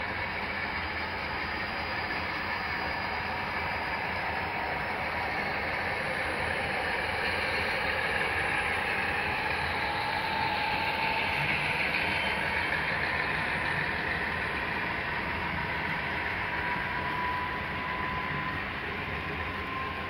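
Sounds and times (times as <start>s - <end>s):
faint steady whine: 0.0s - 20.0s
model train wheels clicking on rails: 0.0s - 20.0s.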